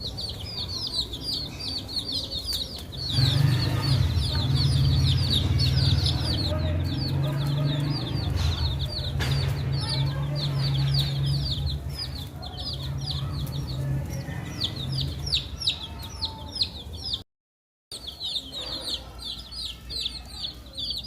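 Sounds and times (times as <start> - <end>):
baby chicks peeping: 0.0 - 17.2, 17.9 - 21.0.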